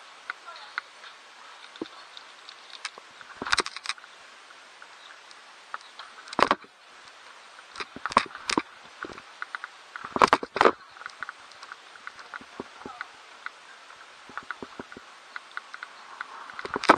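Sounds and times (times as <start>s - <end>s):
tyres and wind hissing: 0.0s - 16.9s.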